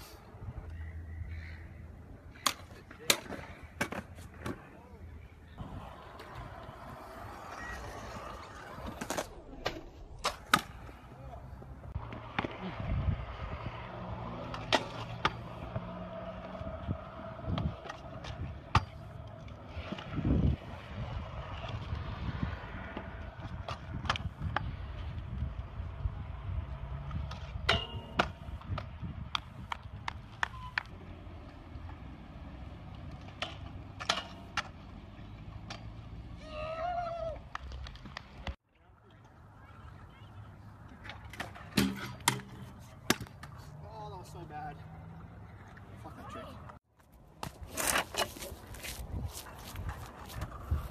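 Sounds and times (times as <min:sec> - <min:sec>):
scooter wheels rolling on concrete: 0:02.1 - 0:50.9.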